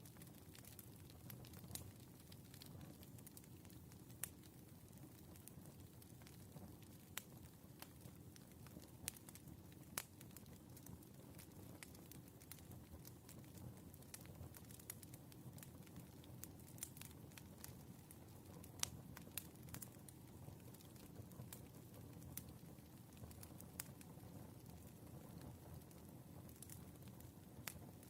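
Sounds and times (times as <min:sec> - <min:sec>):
fire popping: 0:00.0 - 0:28.0
firewood crackling: 0:00.0 - 0:28.0.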